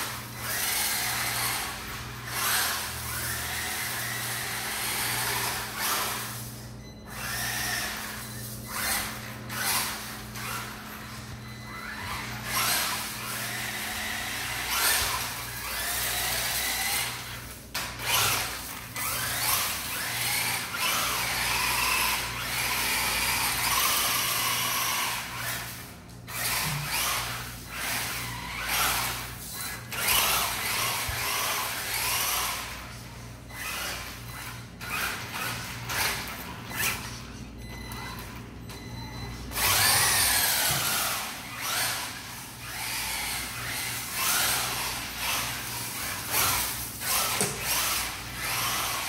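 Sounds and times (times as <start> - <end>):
toy car electric motor whining: 0.0 - 38.9, 39.5 - 49.0.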